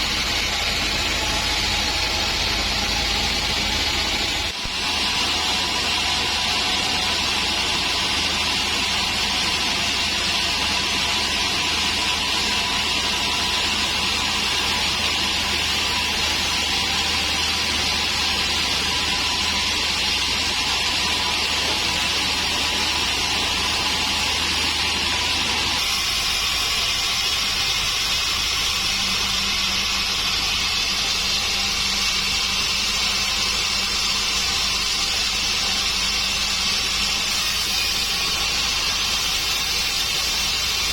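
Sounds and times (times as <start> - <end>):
band saw running: 0.0 - 40.9.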